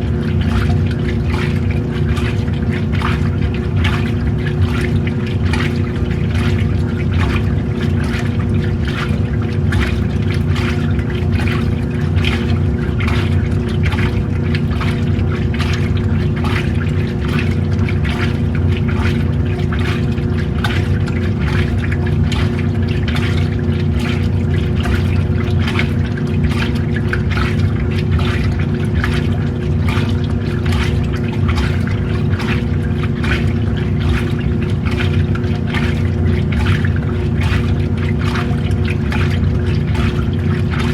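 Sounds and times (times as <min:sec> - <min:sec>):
washing machine motor hum: 0:00.0 - 0:40.9
water sloshing in tub: 0:00.0 - 0:40.9.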